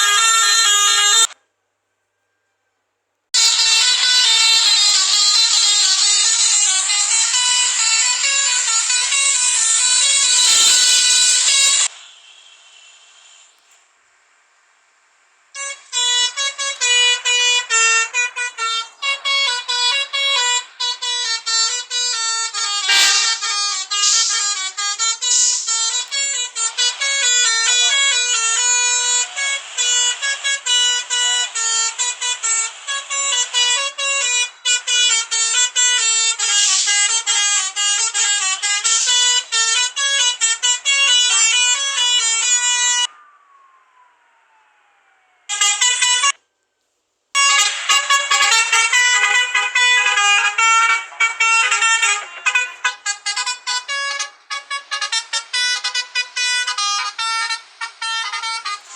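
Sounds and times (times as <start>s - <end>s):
bus air horn melody: 0.0s - 1.4s, 3.4s - 11.9s, 15.6s - 43.1s, 47.4s - 58.9s.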